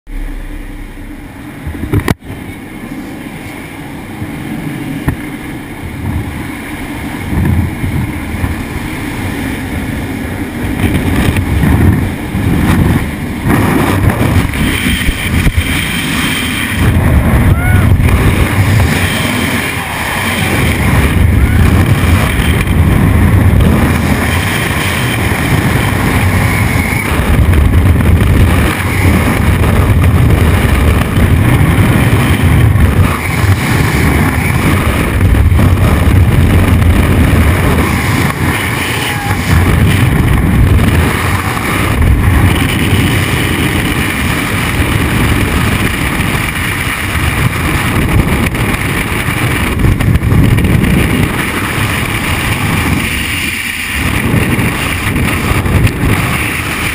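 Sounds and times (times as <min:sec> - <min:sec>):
wind buffeting microphone: 0:00.1 - 0:56.9.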